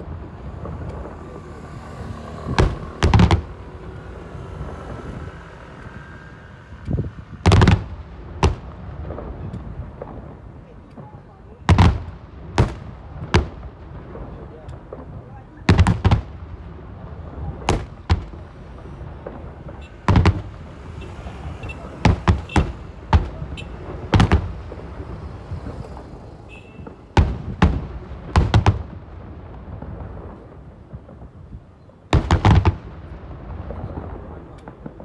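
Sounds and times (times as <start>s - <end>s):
fireworks booming: 0.0s - 35.0s.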